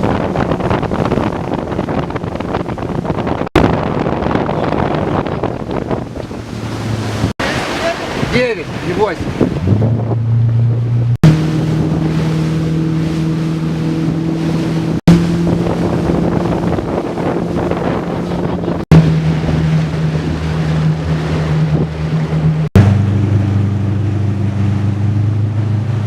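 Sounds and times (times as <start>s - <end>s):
motorboat engine running: 0.0s - 26.0s
water rushing: 0.0s - 26.0s
wind buffeting microphone: 0.0s - 26.0s.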